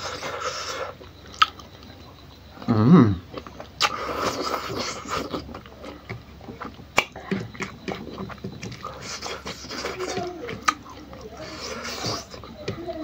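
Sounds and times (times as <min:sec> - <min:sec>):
man chewing wetly: 0:00.0 - 0:13.0.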